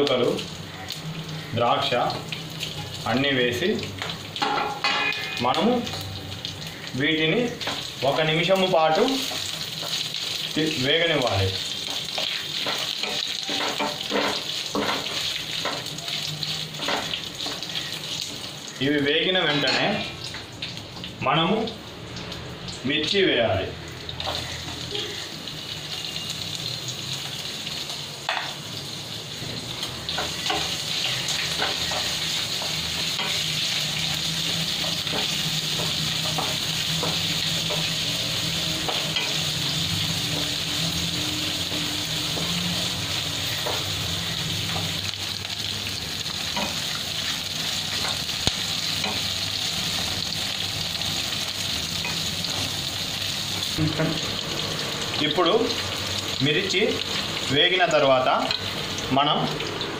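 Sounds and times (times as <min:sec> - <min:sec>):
spices sizzling in hot oil: 0:00.0 - 0:59.9.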